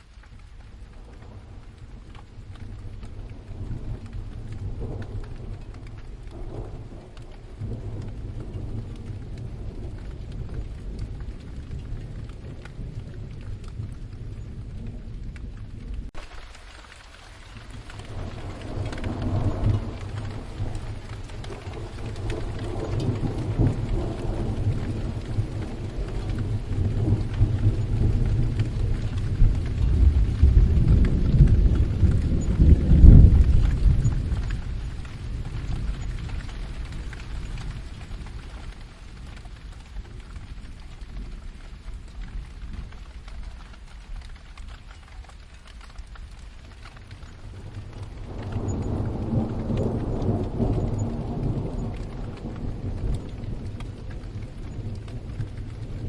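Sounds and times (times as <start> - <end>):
rolling thunder: 0.0 - 56.0
steady rain: 0.0 - 56.0.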